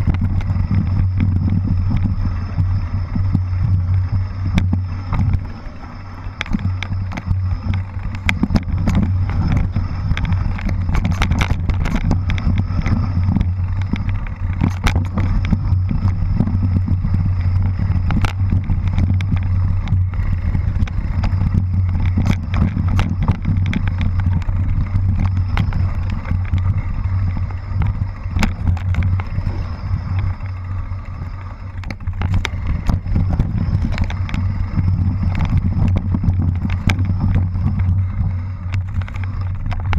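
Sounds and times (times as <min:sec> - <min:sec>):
bike clicks knocks and rattles: 0:00.0 - 0:39.9
bike tyres rumbling on dirt: 0:00.0 - 0:39.9.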